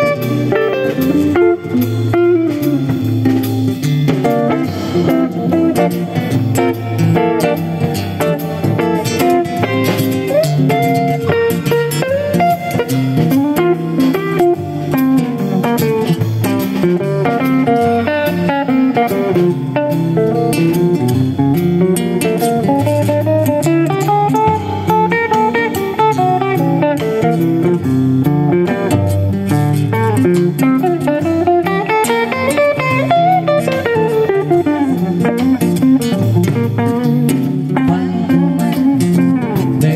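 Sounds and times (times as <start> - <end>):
bass and rhythm backing: 0.0 - 39.9
guitar melody with bending notes: 0.0 - 39.9.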